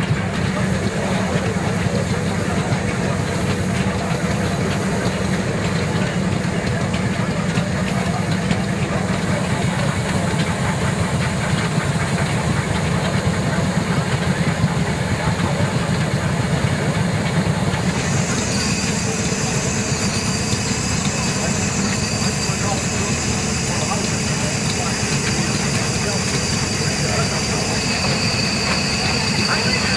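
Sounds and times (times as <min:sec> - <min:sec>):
steam hissing: 0:00.0 - 0:29.9
steam road roller running: 0:00.0 - 0:29.9.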